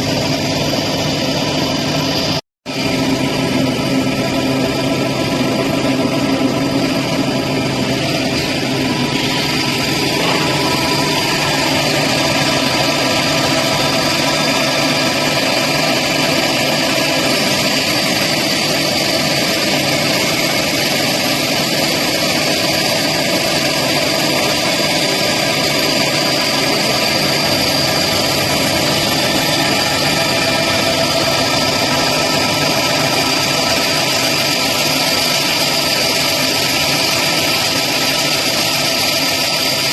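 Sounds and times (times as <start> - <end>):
deburring machine whine: 0.0 - 39.9.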